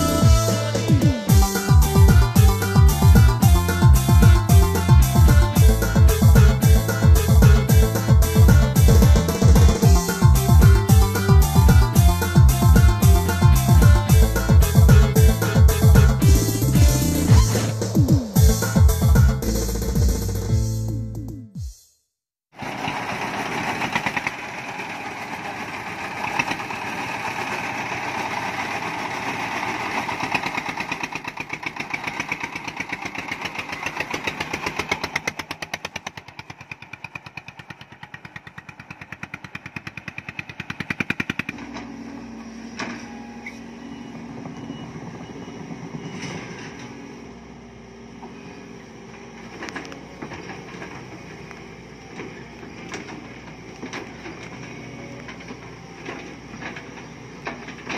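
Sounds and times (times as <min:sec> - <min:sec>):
corn mill engine pulsing: 0:00.0 - 0:20.5, 0:22.5 - 0:57.9
excavator engine hum: 0:00.0 - 0:21.3, 0:22.6 - 0:57.9.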